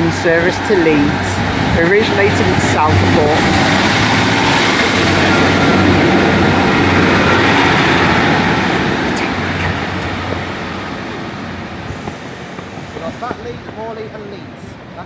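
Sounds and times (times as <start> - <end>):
diesel train engines under power: 0.0 - 15.0
wheel and rail noise: 0.0 - 15.0.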